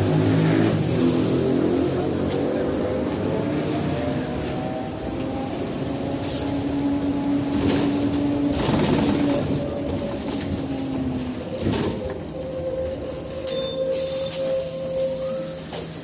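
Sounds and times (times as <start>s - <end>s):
bus engine humming: 0.0s - 16.0s
bus rattling: 0.0s - 16.0s.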